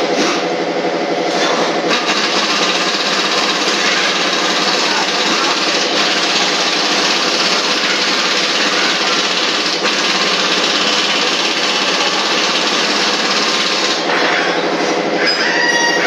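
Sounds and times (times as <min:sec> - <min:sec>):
machine rattling loudly: 0:01.6 - 0:15.2.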